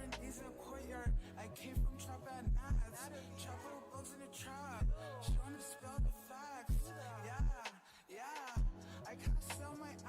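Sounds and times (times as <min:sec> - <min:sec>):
rap beat with deep bass: 0:00.0 - 0:10.0.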